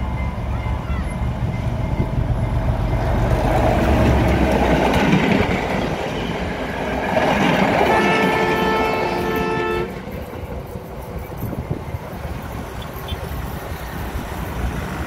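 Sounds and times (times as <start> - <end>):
train passing: 0.0 - 15.0
train wheels clattering on track: 0.9 - 15.0.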